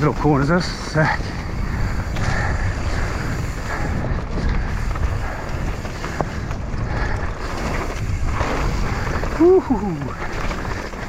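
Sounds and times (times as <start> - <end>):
bike tyres rushing on dirt: 0.0 - 11.0
wind buffeting microphone: 0.0 - 11.0
bike clicks and knocks: 1.9 - 11.0.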